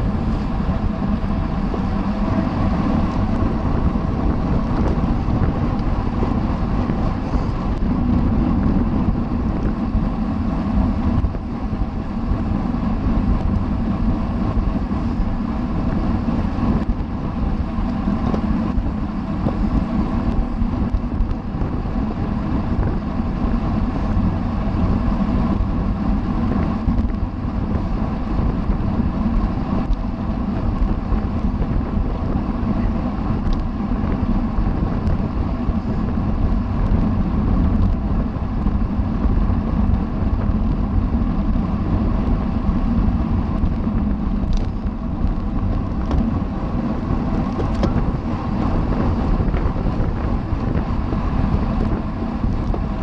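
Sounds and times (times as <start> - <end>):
steady hum: 0.0 - 53.0
wind on microphone: 0.0 - 53.0.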